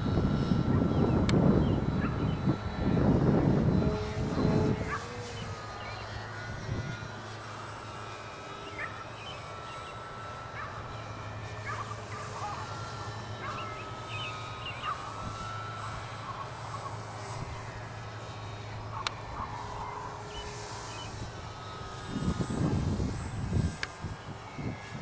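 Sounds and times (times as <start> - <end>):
electric model plane motor whine: 0.0 - 25.0.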